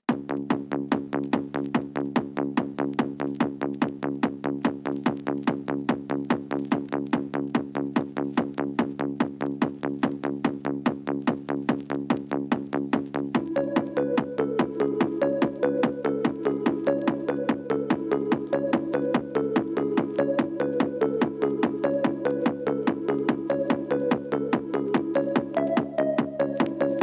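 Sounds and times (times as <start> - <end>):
electronic dance music: 0.2 - 27.0.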